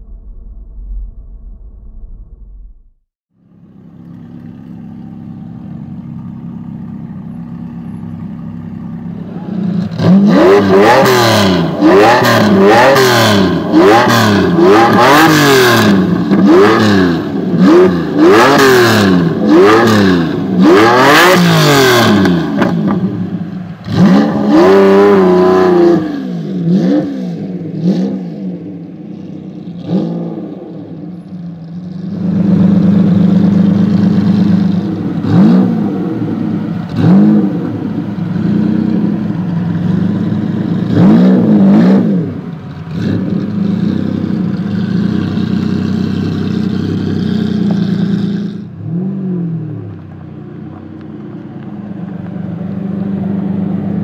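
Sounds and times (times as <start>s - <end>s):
car engine revving: 4.3s - 54.0s.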